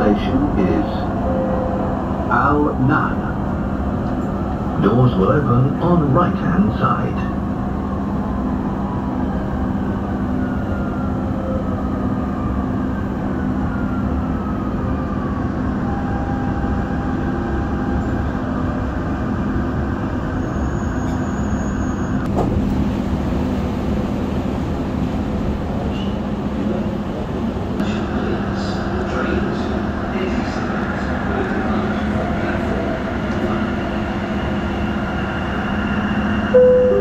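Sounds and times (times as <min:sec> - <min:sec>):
train running rumble: 0:00.0 - 0:37.0.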